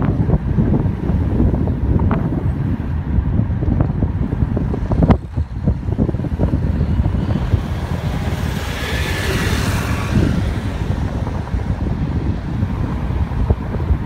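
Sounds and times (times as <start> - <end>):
moving vehicle rumble: 0.0 - 14.0
wind buffeting microphone: 0.0 - 14.0.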